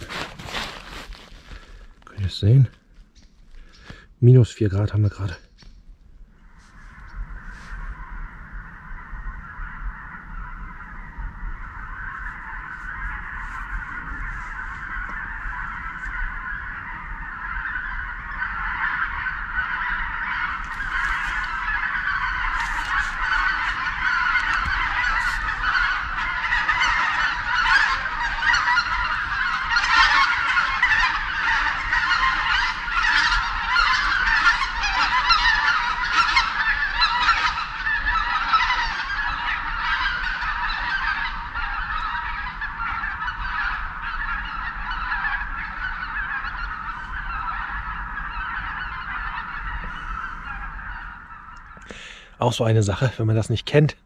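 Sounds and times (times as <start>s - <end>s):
geese honking: 6.4s - 53.9s.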